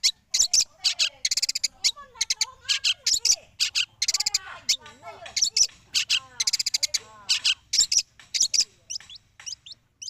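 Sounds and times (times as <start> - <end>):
shrike singing harsh chattering: 0.0 - 9.8.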